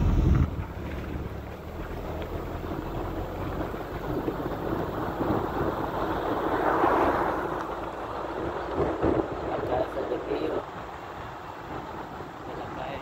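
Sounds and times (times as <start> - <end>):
car road and wind noise: 0.0 - 13.0
oncoming vehicle passing: 0.0 - 13.0.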